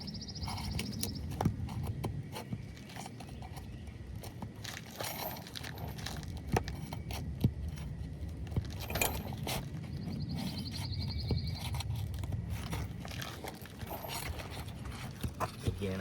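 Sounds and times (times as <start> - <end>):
pry tool scraping shingle: 0.0 - 16.0.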